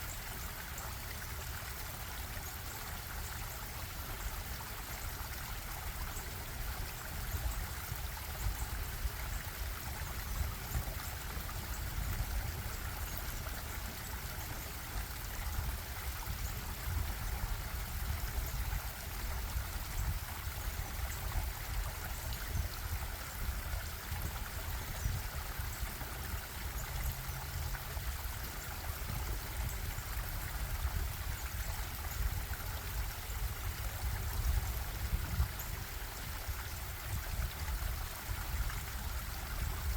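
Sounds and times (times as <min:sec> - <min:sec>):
stream water bubbling: 0:00.0 - 0:39.9.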